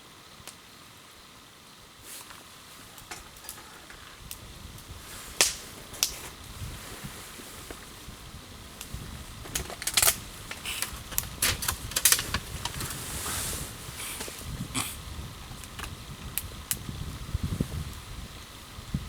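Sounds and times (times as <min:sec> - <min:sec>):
fire hissing: 0:00.0 - 0:19.0
wood fire crackling: 0:00.0 - 0:19.0.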